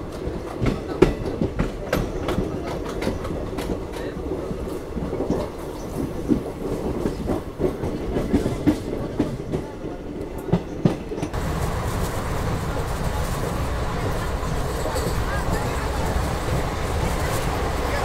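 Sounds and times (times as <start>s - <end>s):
train rumble and rushing hiss: 0.0s - 18.0s
train wheels clattering over track: 0.0s - 18.0s.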